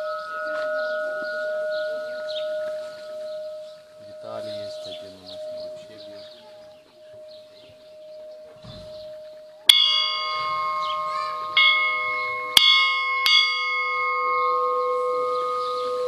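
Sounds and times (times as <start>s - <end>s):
bells ringing: 0.0s - 16.0s.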